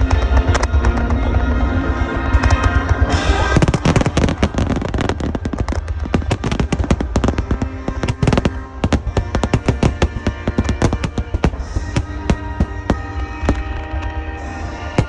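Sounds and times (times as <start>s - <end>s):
fireworks bursting and crackling: 0.0s - 15.0s
music playing: 0.0s - 15.0s.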